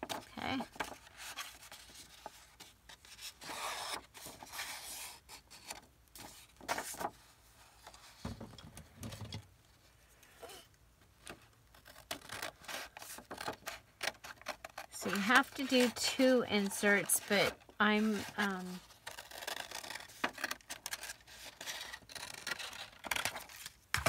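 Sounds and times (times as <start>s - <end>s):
paper rustling and crinkling: 0.0s - 9.4s, 11.2s - 24.0s.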